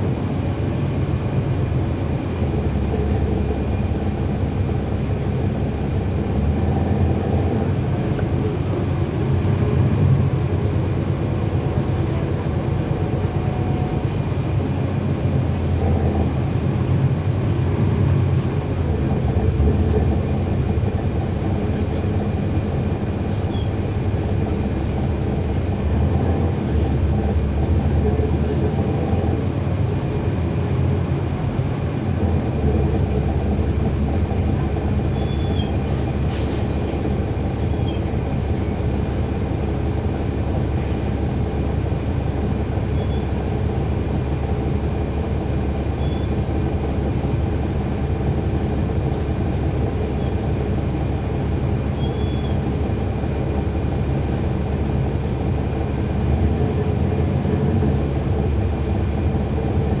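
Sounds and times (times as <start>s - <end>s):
bus diesel engine droning: 0.0s - 60.0s
road and body rumble: 0.0s - 60.0s.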